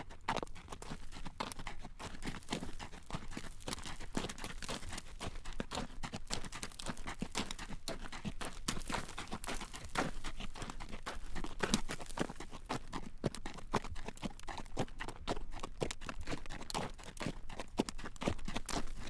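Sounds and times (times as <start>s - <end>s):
hooves clip-clopping on pavement: 0.0s - 19.0s.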